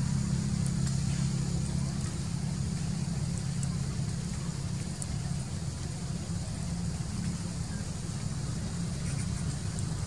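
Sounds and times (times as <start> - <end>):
faint hiss: 0.0 - 10.0
low motor hum: 0.0 - 10.0.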